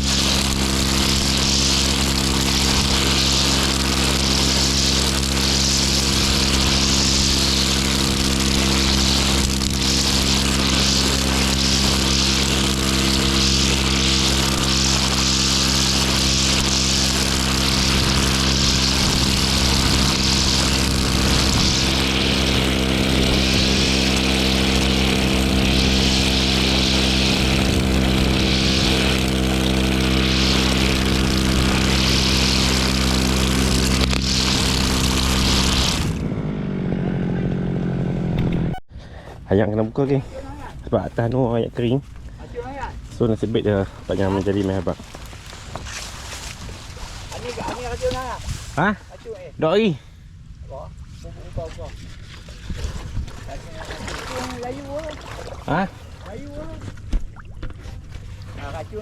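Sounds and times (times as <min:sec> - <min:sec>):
brush cutter engine running: 0:00.0 - 0:38.7, 0:40.5 - 0:48.6, 0:52.7 - 0:57.1, 0:57.8 - 0:59.0.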